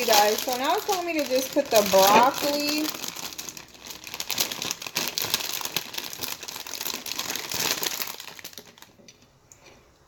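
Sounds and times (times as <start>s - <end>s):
packaging rustling and crackling: 0.0s - 9.2s.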